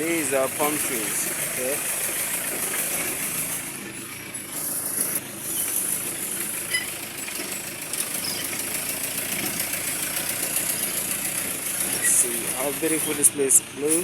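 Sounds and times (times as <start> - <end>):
engine running roughly: 0.0 - 14.0.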